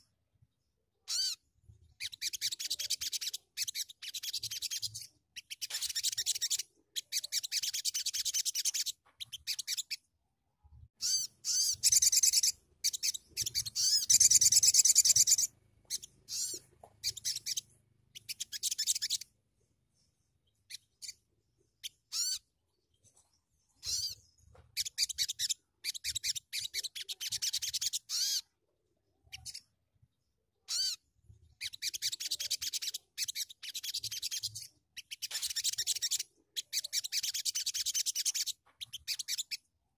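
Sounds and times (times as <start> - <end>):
bird twittering: 1.1 - 1.4, 2.0 - 10.0, 11.0 - 19.3, 20.5 - 28.5, 31.6 - 39.7.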